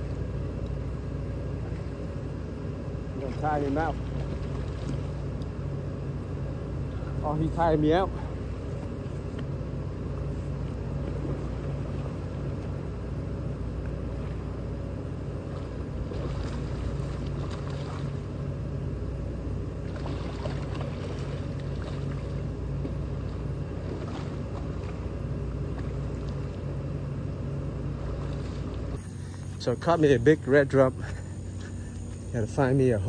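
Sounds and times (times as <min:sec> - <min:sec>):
engine droning: 0:00.0 - 0:33.0.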